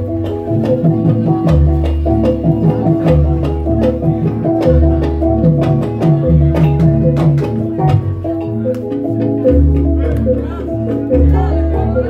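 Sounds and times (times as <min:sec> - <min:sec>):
melody of struck pitched notes: 0:00.0 - 0:12.0.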